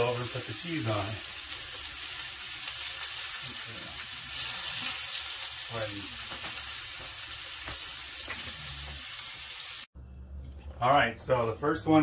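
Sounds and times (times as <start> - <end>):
burger patty sizzling: 0.0 - 9.9.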